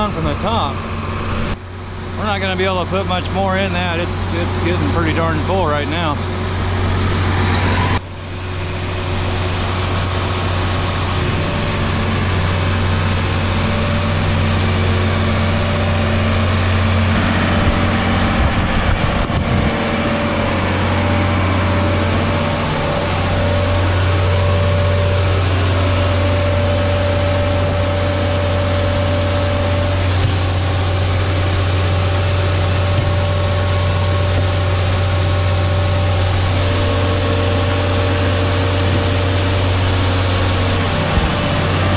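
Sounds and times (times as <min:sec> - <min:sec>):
heavy machinery humming: 0:00.0 - 0:41.9.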